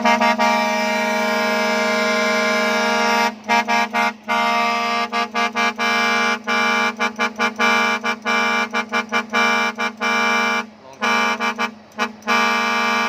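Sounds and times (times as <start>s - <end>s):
air horn blast and toots: 0.0s - 13.0s.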